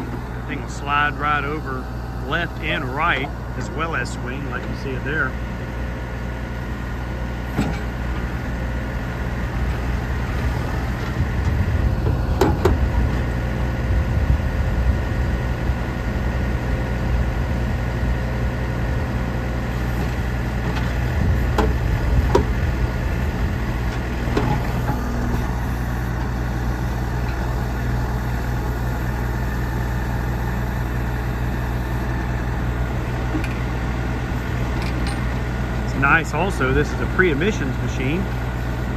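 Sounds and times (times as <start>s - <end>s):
diesel backhoe engine running: 0.0s - 38.9s.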